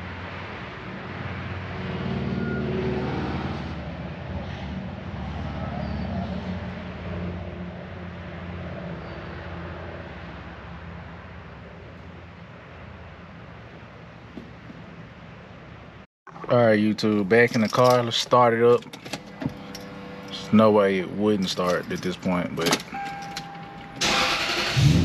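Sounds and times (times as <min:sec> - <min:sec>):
vehicle engine hum: 0:00.0 - 0:25.0.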